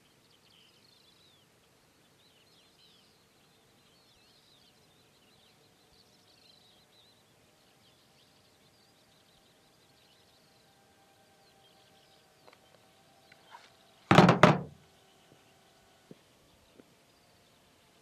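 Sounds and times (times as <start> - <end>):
small birds twittering: 0.0 - 18.0.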